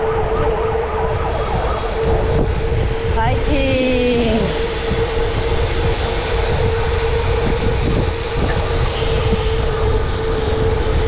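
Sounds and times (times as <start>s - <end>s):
steady mid-pitched hum: 0.0s - 11.0s
wind rushing over microphone: 0.0s - 11.0s.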